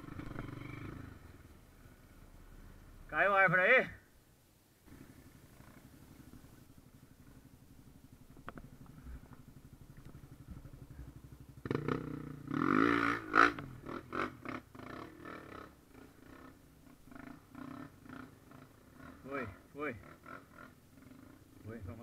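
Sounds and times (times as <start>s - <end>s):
dirt bike engine idling and revving: 0.0s - 4.1s, 4.8s - 22.0s.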